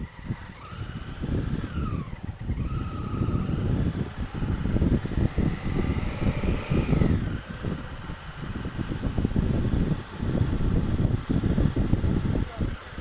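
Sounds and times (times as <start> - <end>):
motorcycle engine accelerating: 0.0 - 13.0
rising engine whine: 0.0 - 13.0
wind rumbling on microphone: 0.0 - 13.0.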